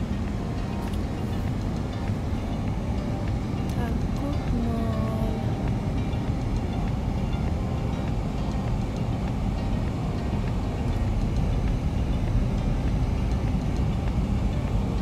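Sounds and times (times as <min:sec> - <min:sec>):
car engine and road noise rumble: 0:00.0 - 0:15.0.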